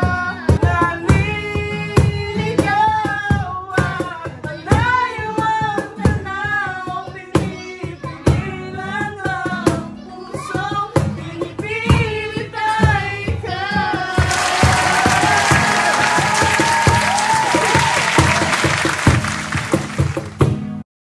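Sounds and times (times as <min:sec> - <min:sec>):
man and woman singing: 0:00.0 - 0:18.4
cajon knocks: 0:00.0 - 0:20.8
strummed acoustic guitar: 0:00.0 - 0:20.8.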